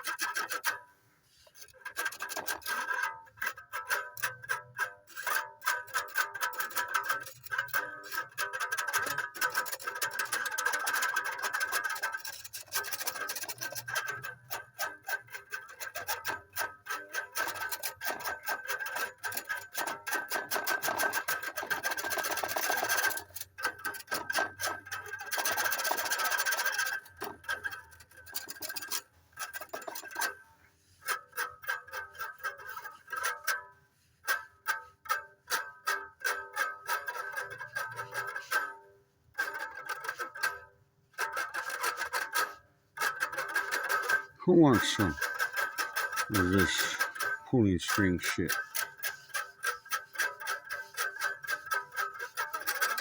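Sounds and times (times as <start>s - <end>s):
plucked string instrument: 0.0s - 53.0s.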